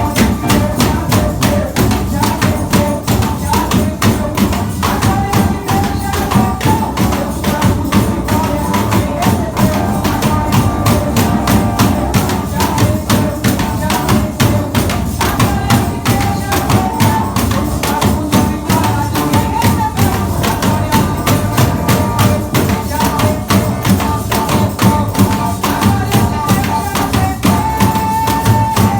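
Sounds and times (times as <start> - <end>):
sharp percussion strikes: 0.0 - 28.9
held melody line: 4.6 - 28.9.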